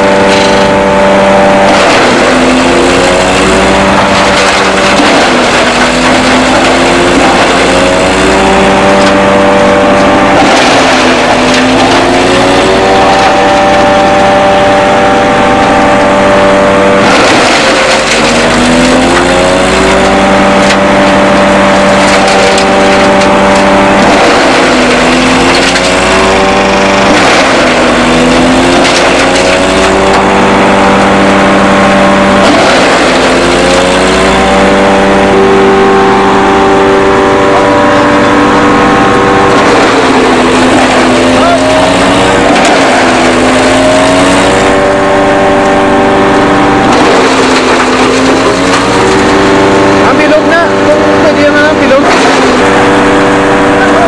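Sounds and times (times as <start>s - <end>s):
husks being shredded: 0.0s - 54.0s
shredder engine running: 0.0s - 54.0s.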